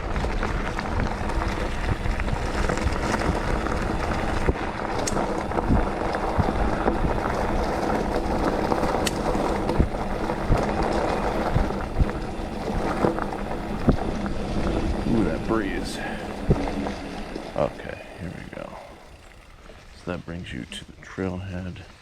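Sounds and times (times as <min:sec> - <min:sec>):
wind buffeting microphone: 0:00.0 - 0:18.9
bike clicks and knocks: 0:00.0 - 0:19.8
tyres rumbling on dirt: 0:00.0 - 0:21.7.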